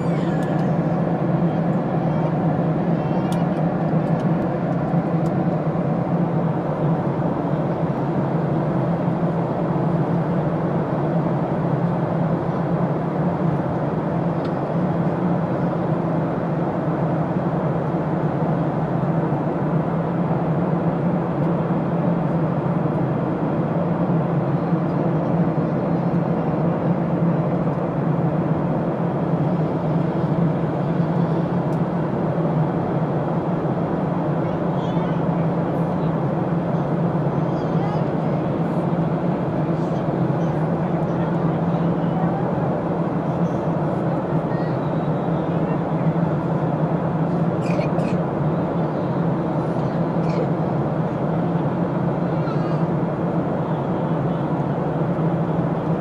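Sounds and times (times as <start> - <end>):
airliner cabin noise: 0.0 - 56.0.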